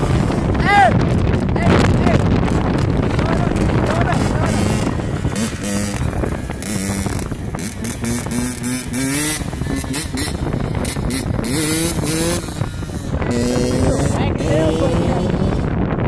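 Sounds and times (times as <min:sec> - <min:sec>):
dirt bike engine revving: 0:00.0 - 0:16.0
wind buffeting microphone: 0:00.0 - 0:16.0.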